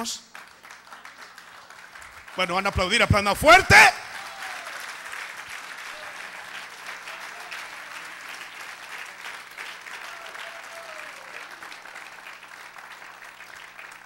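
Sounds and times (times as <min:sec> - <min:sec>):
congregation applauding: 0:00.0 - 0:14.0.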